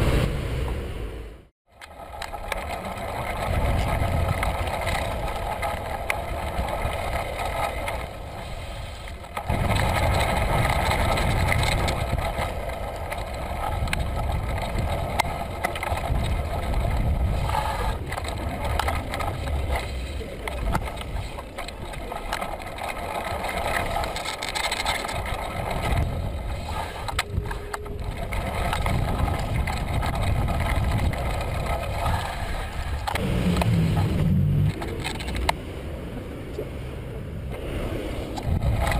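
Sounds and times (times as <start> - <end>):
tyre and road noise: 0.0 - 38.9
bicycle rattles: 1.7 - 35.6, 38.3 - 38.9
wind buffeting microphone: 2.0 - 38.9.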